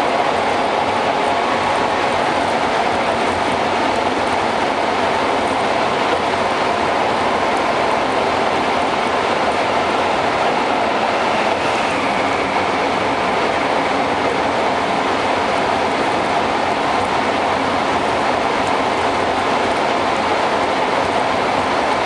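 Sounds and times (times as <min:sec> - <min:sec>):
car road and tyre noise in tunnel: 0:00.0 - 0:22.0.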